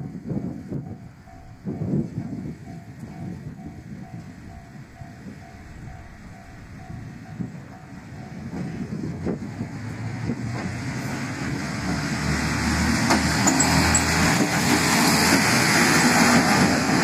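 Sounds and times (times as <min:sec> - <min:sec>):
diesel railcar engine humming: 0:00.0 - 0:17.0
wheels rumbling on rails: 0:00.0 - 0:17.0.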